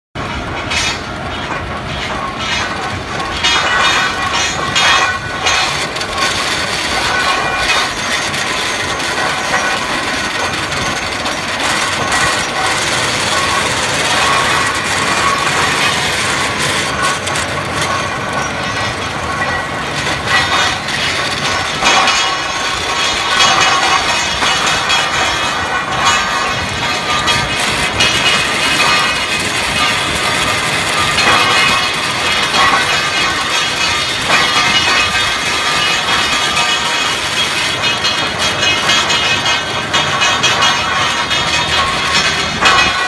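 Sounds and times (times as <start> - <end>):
mulch layer mechanical rattle: 0.2 - 43.0
scattered knocks: 0.2 - 43.0.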